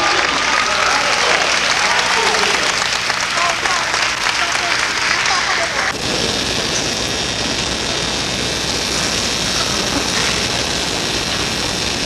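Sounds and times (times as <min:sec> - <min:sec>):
gymnasium background rushing noise: 0:00.0 - 0:11.9.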